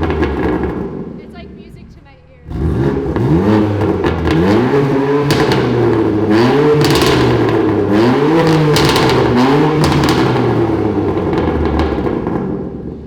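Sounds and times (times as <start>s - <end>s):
car engine revving with exhaust pops: 0.0s - 13.0s.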